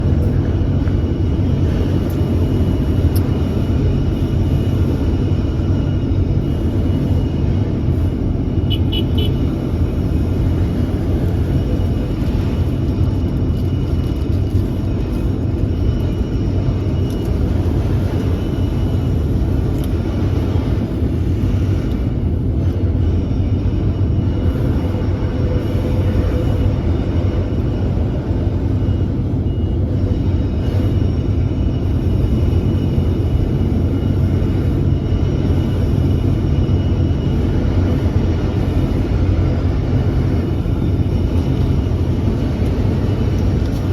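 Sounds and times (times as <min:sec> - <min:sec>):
excavator diesel rumble: 0:00.0 - 0:43.9.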